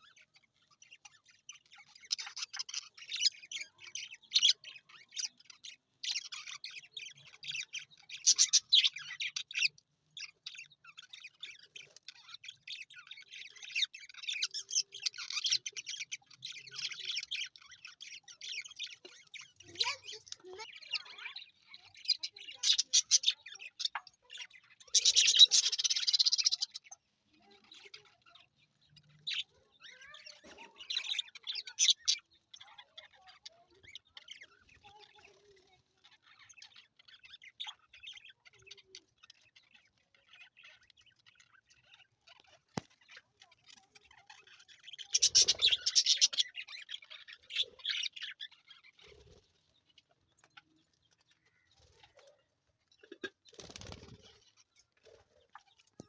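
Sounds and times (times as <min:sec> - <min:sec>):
budgies chirping: 0:00.0 - 0:56.0.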